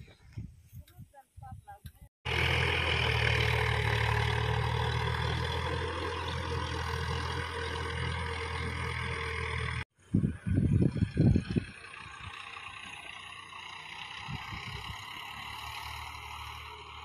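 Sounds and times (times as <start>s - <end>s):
tractor diesel engine drone: 2.3s - 17.0s.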